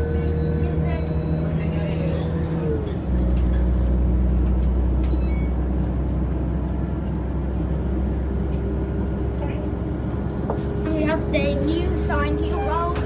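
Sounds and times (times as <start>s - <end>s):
train diesel engine drone: 0.0s - 13.0s
wheels running on track: 0.0s - 13.0s.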